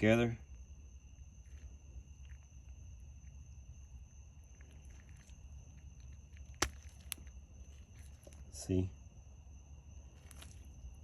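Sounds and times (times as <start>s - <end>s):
faint handling ticks: 0.0s - 9.0s, 10.0s - 11.0s
low steady hum: 0.0s - 11.0s.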